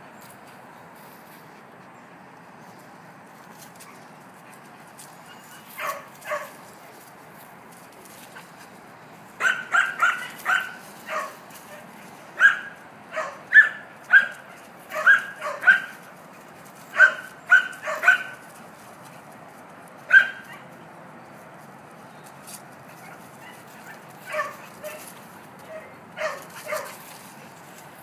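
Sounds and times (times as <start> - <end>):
dogs play barking: 3.5 - 21.4, 22.3 - 28.0.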